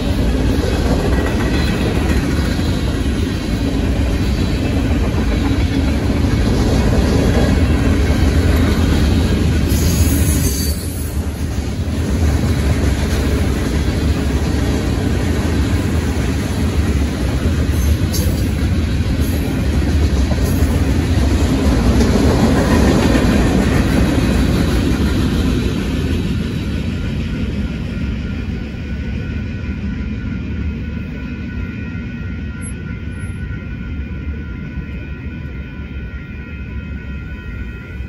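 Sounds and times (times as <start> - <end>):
train wheels clattering on rails: 0.0 - 31.0.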